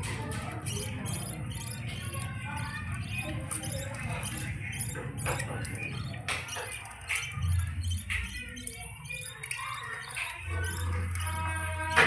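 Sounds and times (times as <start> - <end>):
chicks begging chirps and squawks: 0.0 - 12.0.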